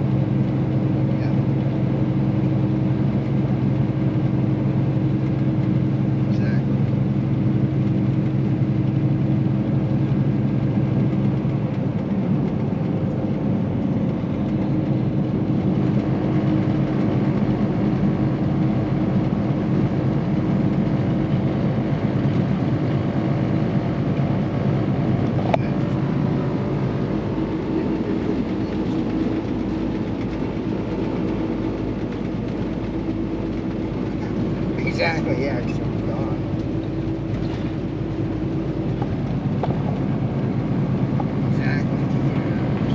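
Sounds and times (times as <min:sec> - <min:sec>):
diesel truck engine: 0:00.0 - 0:42.9
road noise: 0:00.0 - 0:42.9.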